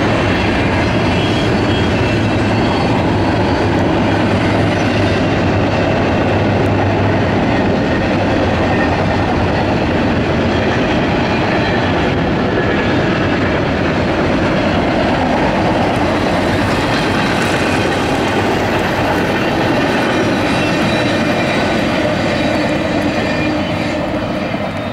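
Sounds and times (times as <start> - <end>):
steel wheels rolling on rails: 0.0 - 24.9.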